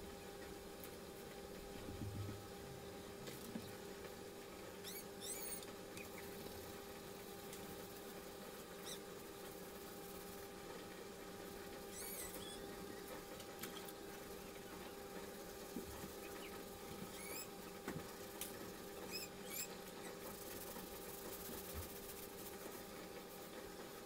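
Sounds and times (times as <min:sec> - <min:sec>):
steady faint hum: 0:00.0 - 0:24.0.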